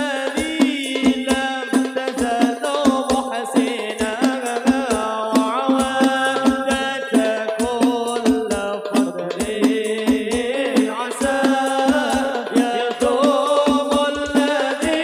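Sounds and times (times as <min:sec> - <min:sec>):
hand-struck frame drums: 0:00.0 - 0:15.0.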